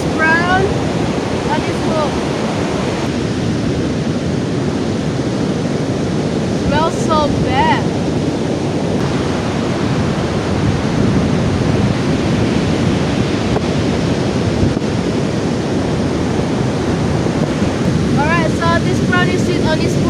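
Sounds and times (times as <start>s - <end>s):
surf rushing: 0.0s - 20.0s
wind buffeting microphone: 0.0s - 20.0s.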